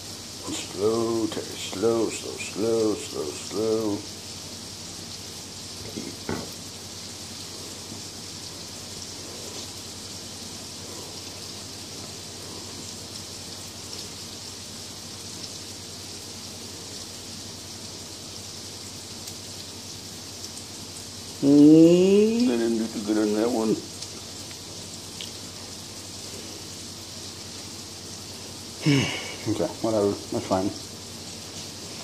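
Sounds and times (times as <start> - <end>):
hamburger patties sizzling: 0.0 - 32.0.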